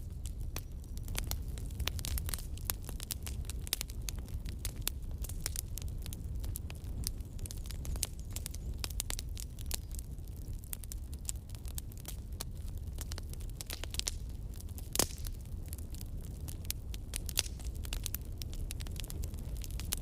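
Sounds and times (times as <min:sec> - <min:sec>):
low rumble of flame: 0:00.0 - 0:20.0
wood fire crackling and popping: 0:00.0 - 0:20.0.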